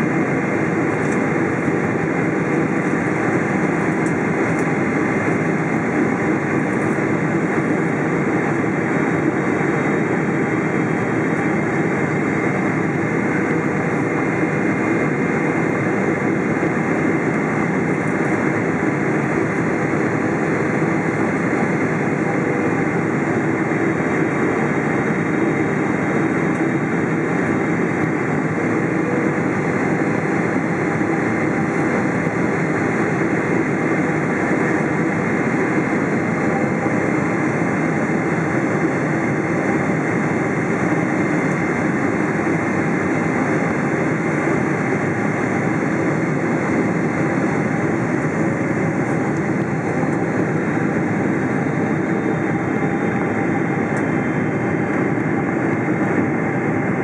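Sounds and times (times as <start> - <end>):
jet engine and airflow in cabin: 0.0 - 57.0.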